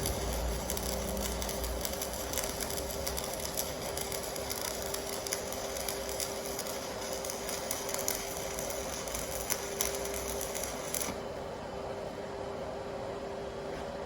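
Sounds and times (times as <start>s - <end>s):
welding arc humming and crackling: 0.0s - 11.4s.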